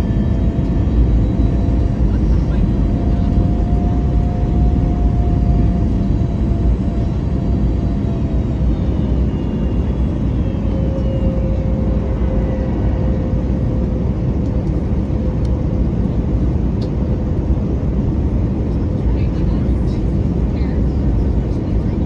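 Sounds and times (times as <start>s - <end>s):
airplane cabin rumble: 0.0s - 22.0s
faint jet engine whine: 0.0s - 22.0s.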